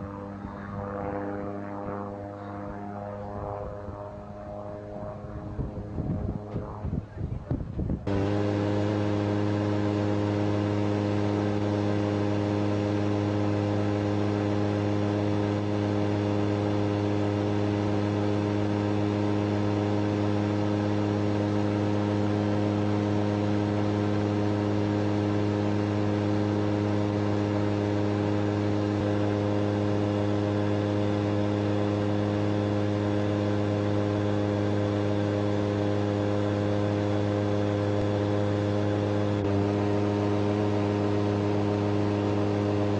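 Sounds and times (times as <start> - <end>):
microlight engine humming steadily: 0.0 - 42.9.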